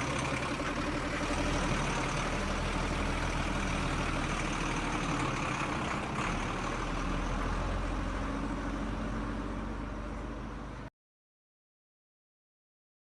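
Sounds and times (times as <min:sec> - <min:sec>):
tractor engine running at low revs: 0:00.0 - 0:10.9.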